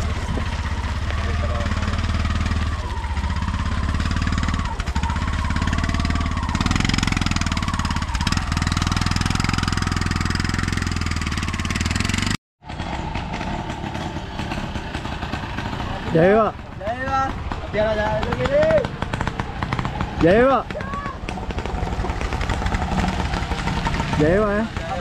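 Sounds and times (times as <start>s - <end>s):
quieter three-wheeler engine: 0.0s - 25.0s
three-wheeler engine idling: 0.0s - 25.0s.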